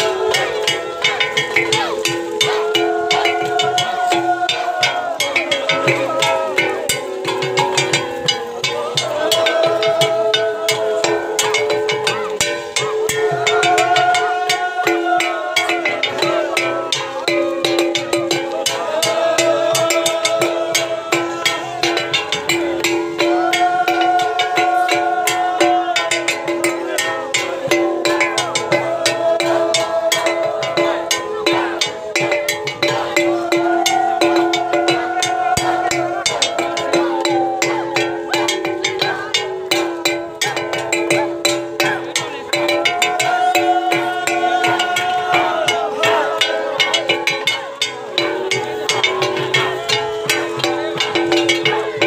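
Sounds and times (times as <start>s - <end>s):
quick percussion strikes: 0.0s - 52.0s.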